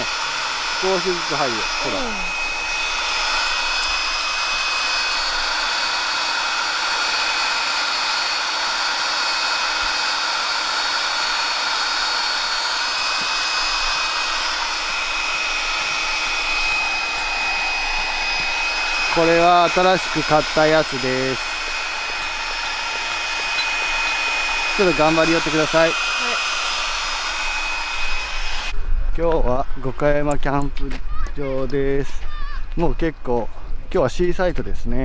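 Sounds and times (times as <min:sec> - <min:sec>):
electric air pump whirring: 0:00.0 - 0:28.8.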